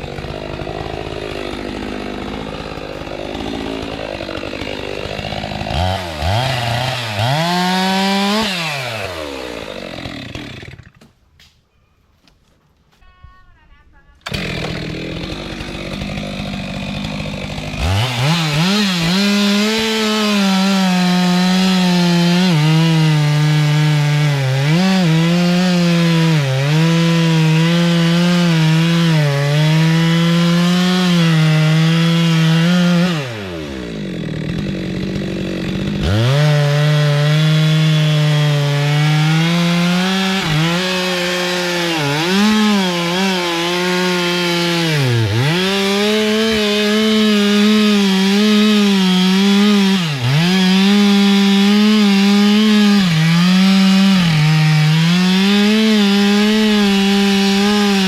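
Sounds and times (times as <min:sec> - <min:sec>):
chainsaw cutting wood: 0:00.0 - 0:11.2, 0:14.2 - 0:58.0.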